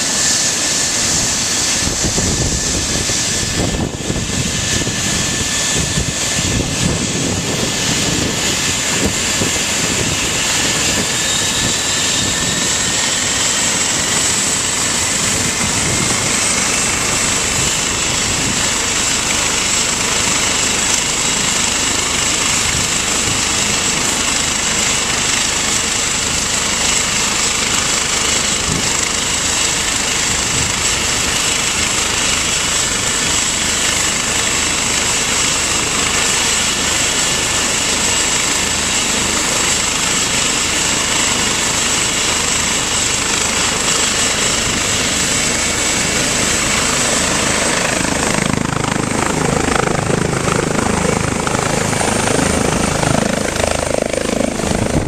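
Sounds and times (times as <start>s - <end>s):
helicopter rotor rumble: 0.0s - 55.0s
helicopter turbine whine: 0.0s - 55.0s.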